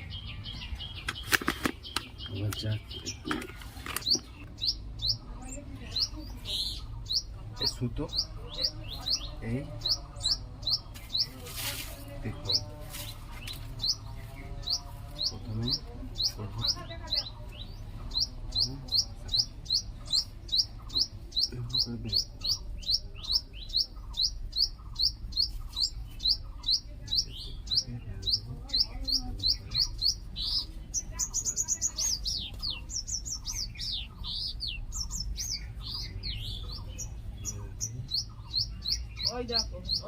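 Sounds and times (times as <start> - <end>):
small bird chirping: 0.0 - 40.0.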